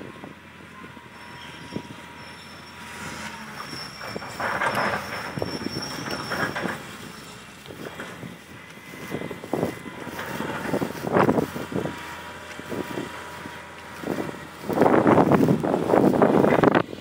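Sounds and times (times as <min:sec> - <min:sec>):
excavator engine running: 0:00.0 - 0:17.0
faint hydraulic whine: 0:00.0 - 0:17.0
excavator bucket scraping: 0:03.0 - 0:16.8.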